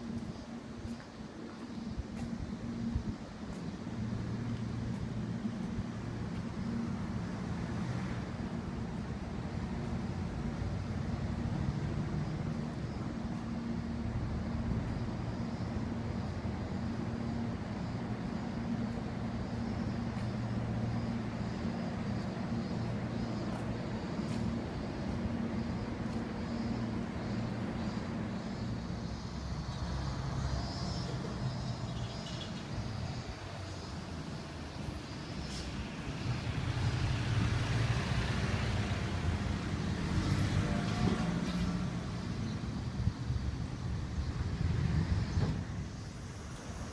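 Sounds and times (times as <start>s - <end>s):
outdoor background noise: 0.0s - 46.9s
vehicle engine humming: 0.0s - 46.9s.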